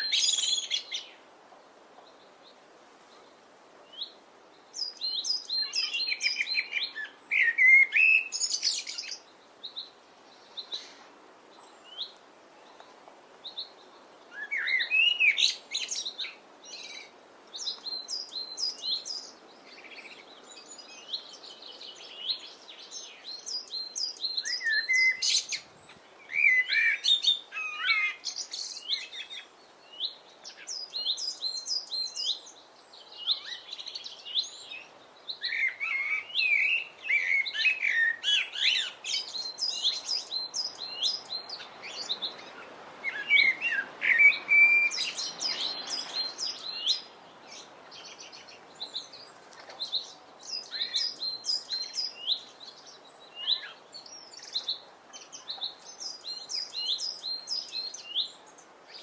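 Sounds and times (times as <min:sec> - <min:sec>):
faint steady background hiss: 0:00.0 - 0:59.0
songbirds chirping and singing: 0:00.0 - 0:59.0.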